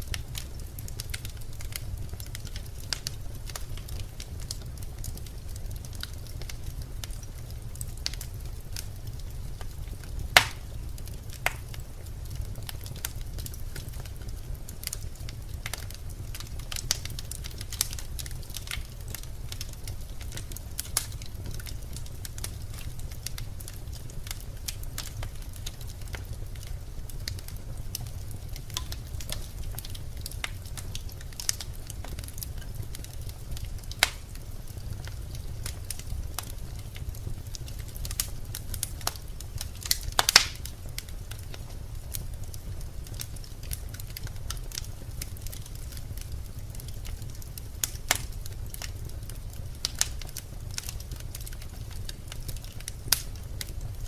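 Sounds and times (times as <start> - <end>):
logs crackling and popping: 0.0 - 54.0
low rumble of fire: 0.0 - 54.0.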